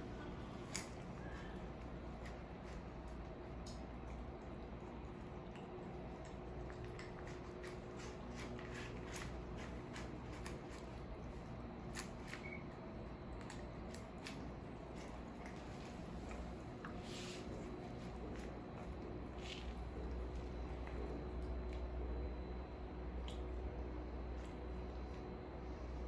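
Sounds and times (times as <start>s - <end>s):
pets crunching dry food: 0.0s - 25.8s
low steady hum: 0.0s - 26.0s.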